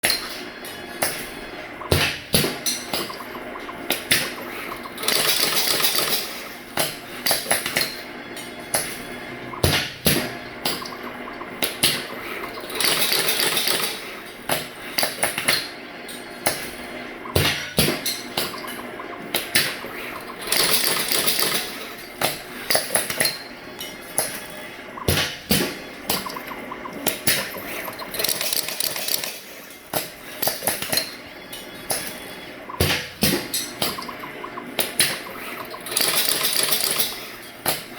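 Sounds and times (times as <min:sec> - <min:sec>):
machine clicks and knocks: 0:01.0 - 0:08.0, 0:08.7 - 0:15.7, 0:16.4 - 0:23.4, 0:25.0 - 0:31.1, 0:32.7 - 0:37.9.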